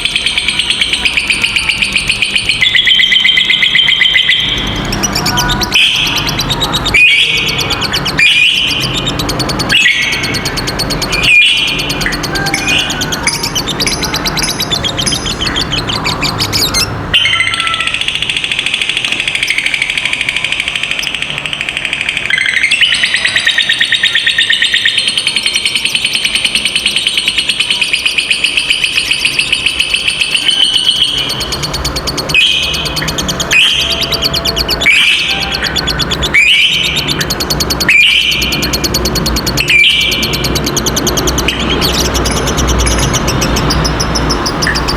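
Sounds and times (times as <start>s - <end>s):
bird rapid trill: 0.0s - 44.9s.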